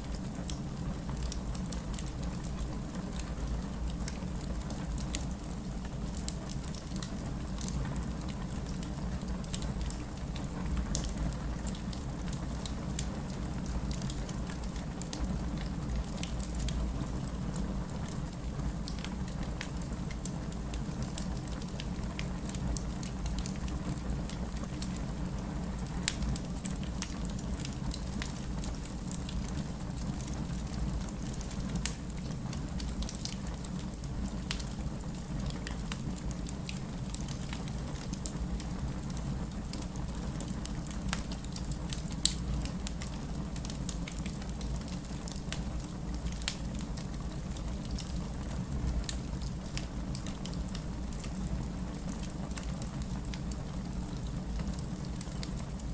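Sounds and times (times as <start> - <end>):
logs crackling and popping: 0.0 - 55.9.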